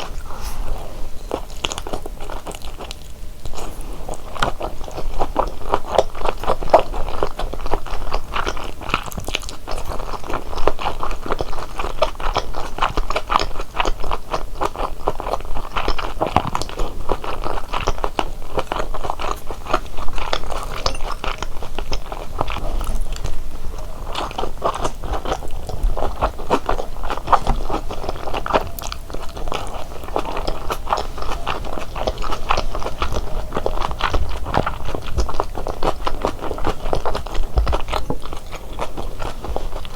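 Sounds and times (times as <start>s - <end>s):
biting and chewing dumplings: 0.0s - 39.9s.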